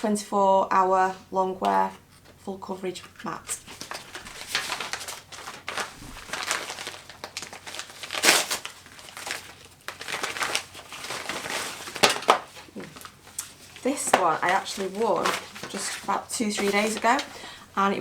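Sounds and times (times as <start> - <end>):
packaging crinkling and rustling: 3.1 - 18.0.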